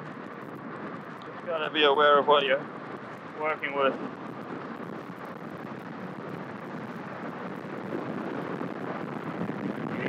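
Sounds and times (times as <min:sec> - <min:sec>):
wind over microphone: 0:00.0 - 0:10.0.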